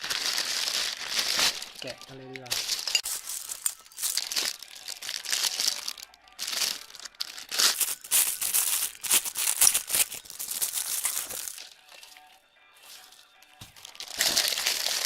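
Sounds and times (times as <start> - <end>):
packaging tearing: 0.0 - 11.7, 13.8 - 15.0
packaging crinkling and rustling: 0.0 - 11.8, 13.7 - 15.0.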